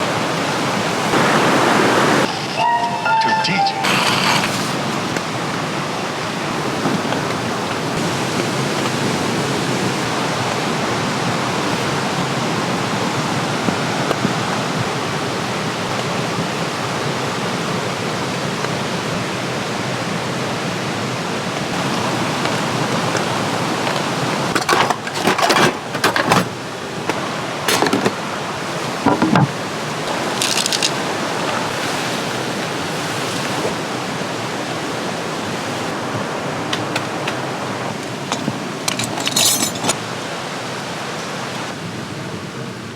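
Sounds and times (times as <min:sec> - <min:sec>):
rain falling: 0:00.0 - 0:42.9.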